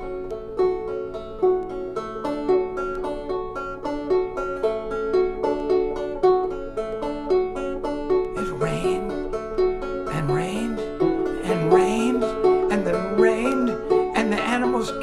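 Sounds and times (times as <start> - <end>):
banjo picking: 0.0 - 15.0.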